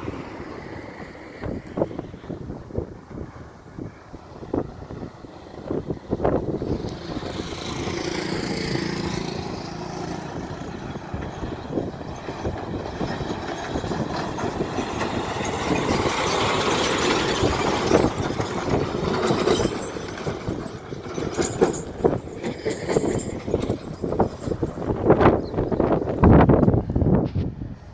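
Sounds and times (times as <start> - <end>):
truck passing by: 0.0 - 27.9.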